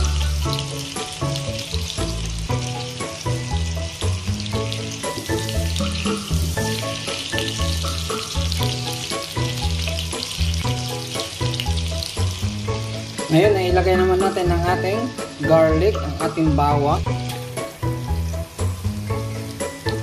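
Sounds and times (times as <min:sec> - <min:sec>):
background music with bass line: 0:00.0 - 0:20.0
butter sizzling in a frying pan: 0:00.0 - 0:20.0.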